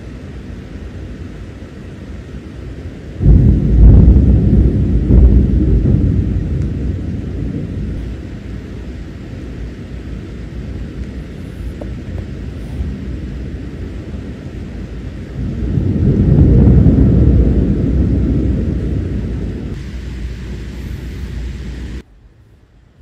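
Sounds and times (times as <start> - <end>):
rolling thunder: 2.1 - 20.6.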